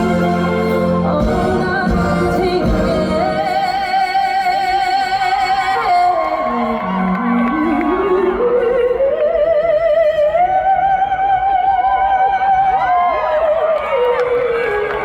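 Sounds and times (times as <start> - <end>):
woman singing a slow ballad: 0.0 - 14.4.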